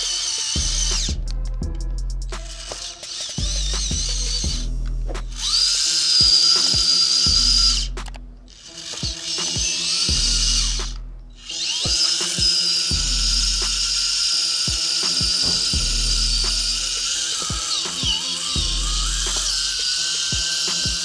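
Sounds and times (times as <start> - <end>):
background music with beat: 0.0 - 21.0
small electric motor whining: 0.0 - 21.0.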